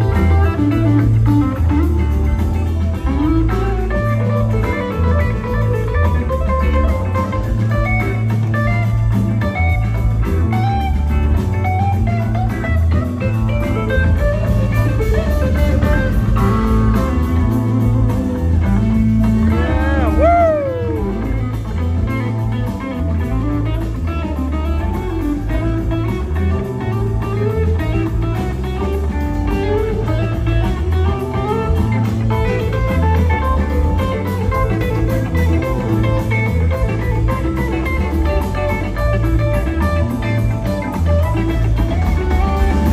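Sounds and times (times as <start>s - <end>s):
bass guitar: 0.0s - 42.9s
drum kit: 0.0s - 42.9s
electric guitar lead lines: 0.0s - 42.9s.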